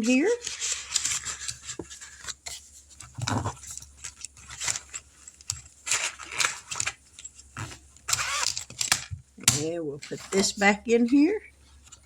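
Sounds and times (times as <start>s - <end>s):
paper and envelopes rustling: 0.0s - 12.0s.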